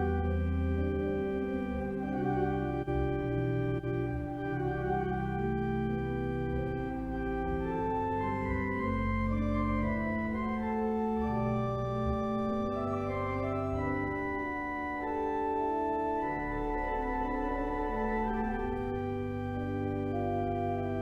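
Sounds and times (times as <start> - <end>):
slow organ chords: 0.0 - 21.0.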